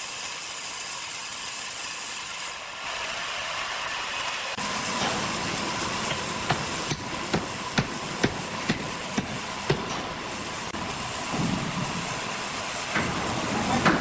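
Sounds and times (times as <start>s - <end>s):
sawmill machinery hissing and rattling: 0.0s - 14.0s.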